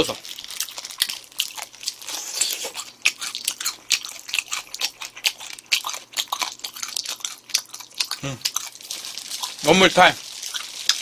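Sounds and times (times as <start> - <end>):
person chewing chicken bones: 0.0 - 11.0.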